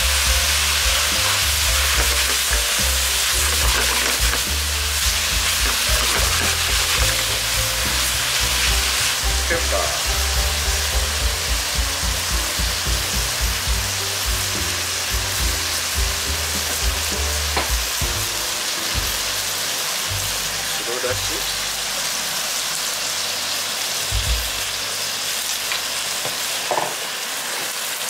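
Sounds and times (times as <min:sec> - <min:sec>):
pork and vegetables sizzling: 0:00.0 - 0:28.0.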